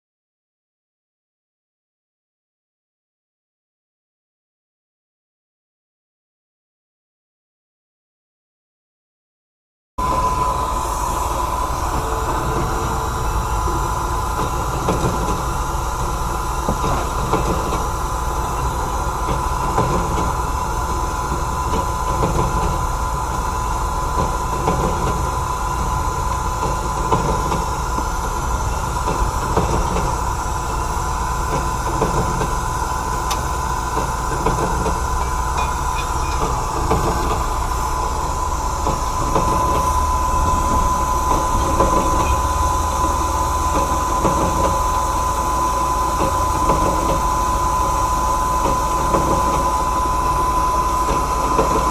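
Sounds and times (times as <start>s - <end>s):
band saw cutting steel: 10.0s - 51.9s.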